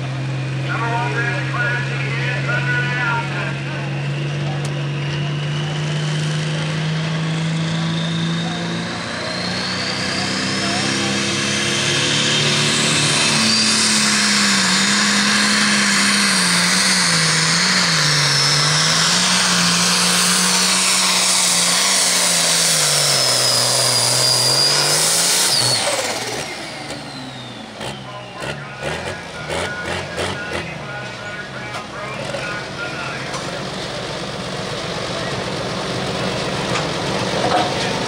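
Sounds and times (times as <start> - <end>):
diesel tractor engine at full throttle: 0.0 - 38.0.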